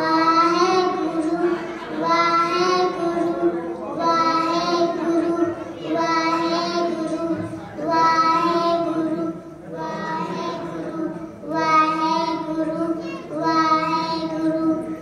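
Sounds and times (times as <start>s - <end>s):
girls singing together: 0.0s - 15.0s.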